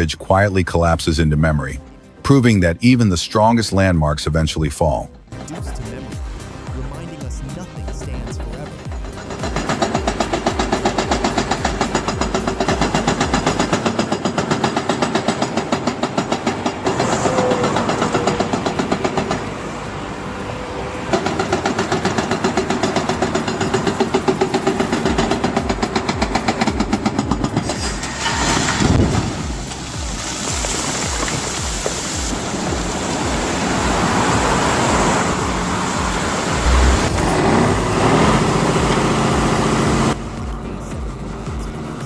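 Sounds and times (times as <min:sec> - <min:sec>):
heavy machine engine running: 0:05.4 - 0:30.5, 0:31.9 - 0:42.0.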